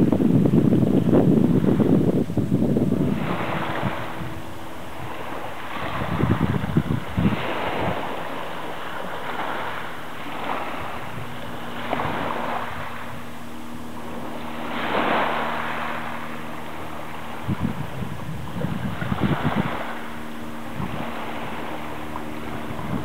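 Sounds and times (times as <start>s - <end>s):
wind gusting on microphone: 0.0s - 23.0s.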